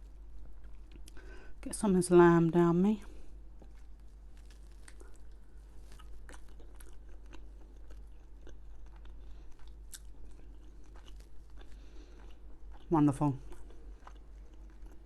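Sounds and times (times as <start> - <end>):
person chewing food: 0.1 - 1.6, 3.0 - 15.0.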